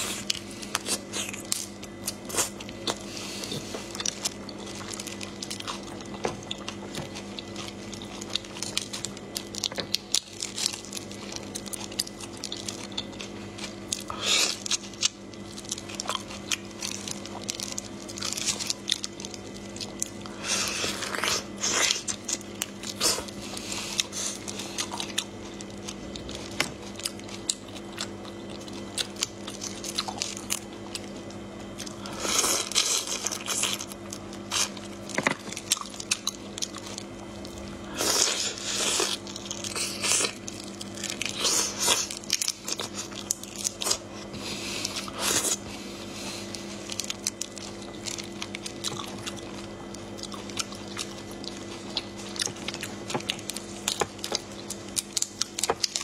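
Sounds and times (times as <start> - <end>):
crunching shrimp shells: 0.0 - 45.6, 46.3 - 56.0
wet chewing: 0.0 - 56.0.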